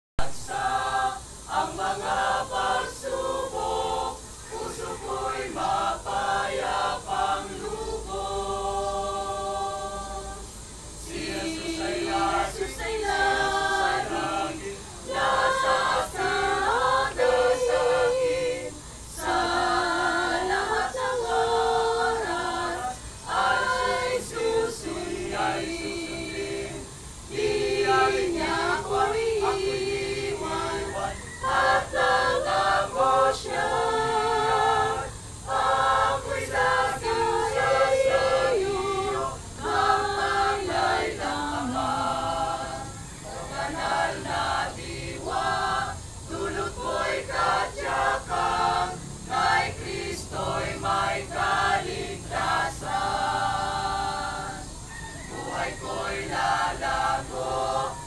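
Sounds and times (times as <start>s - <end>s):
choir singing a hymn: 0.2s - 58.0s.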